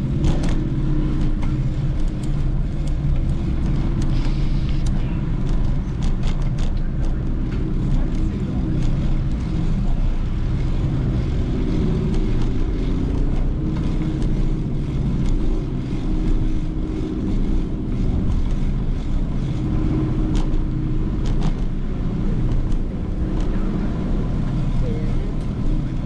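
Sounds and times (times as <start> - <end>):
bicycle clicks and rattles: 0.0 - 26.0
bicycle riding rumble: 0.0 - 26.0.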